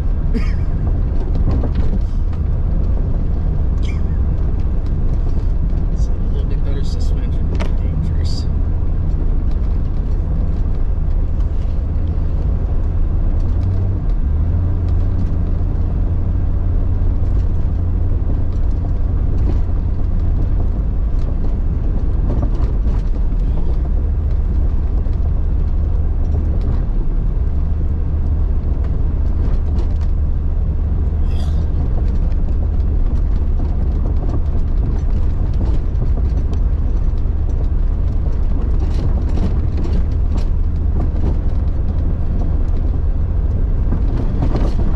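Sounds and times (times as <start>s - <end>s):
car engine droning: 0.0s - 44.9s
light knocks and rattles: 0.3s - 44.9s.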